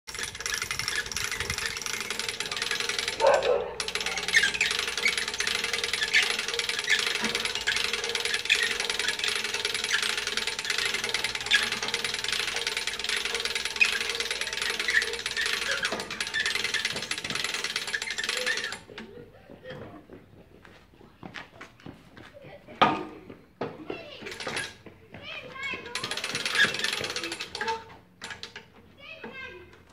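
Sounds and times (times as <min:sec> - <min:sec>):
winch rattling and humming: 0:00.1 - 0:19.9, 0:24.1 - 0:29.9.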